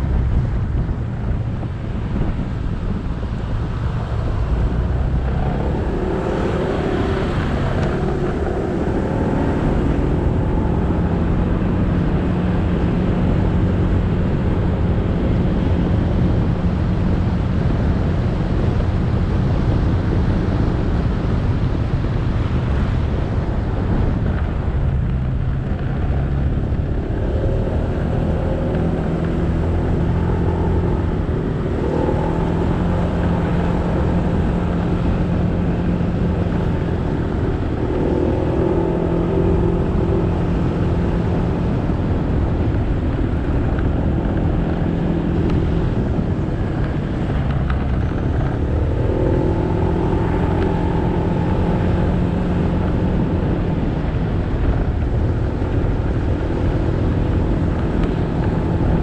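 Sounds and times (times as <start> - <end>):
wind and road noise: 0.0 - 59.0
motorcycle engine revving: 3.7 - 18.7, 23.7 - 59.0.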